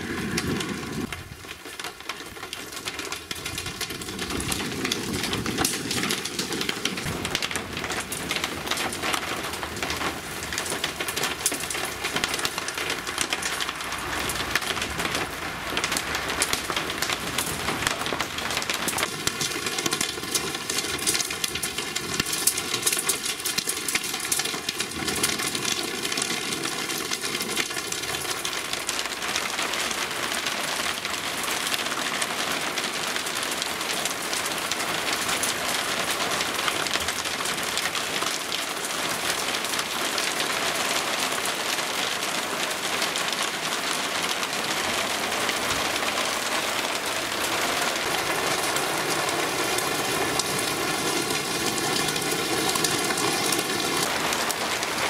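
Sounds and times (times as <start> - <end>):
hail hitting: 0.0 - 55.0
heavy rain downpour: 0.0 - 55.0.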